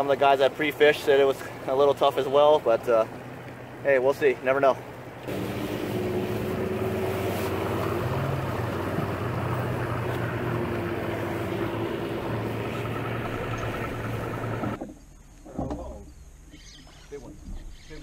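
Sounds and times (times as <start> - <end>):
wind and water rushing: 0.0 - 14.8
outboard motor running: 0.0 - 14.9.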